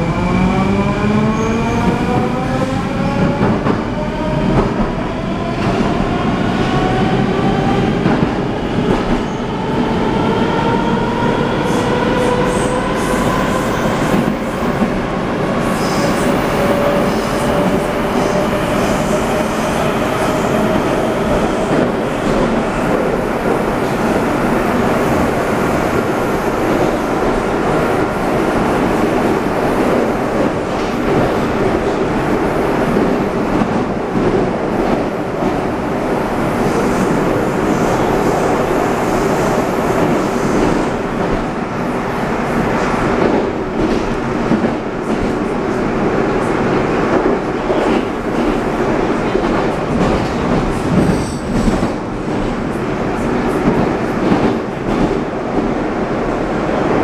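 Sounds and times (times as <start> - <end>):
train wheels on rail: 0.1 - 57.0.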